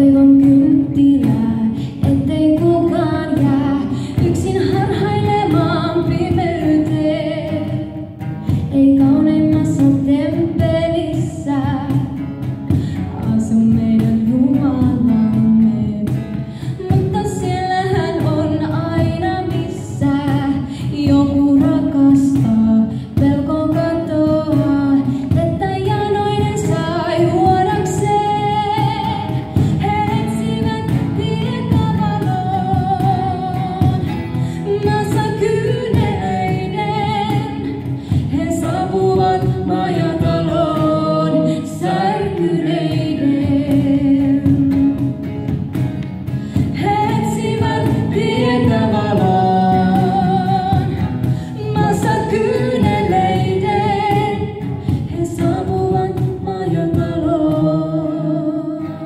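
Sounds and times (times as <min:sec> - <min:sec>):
woman singing: 0:00.0 - 0:45.3, 0:46.3 - 0:59.0
cajon beat: 0:00.0 - 0:59.0
strummed acoustic guitar: 0:00.0 - 0:59.0.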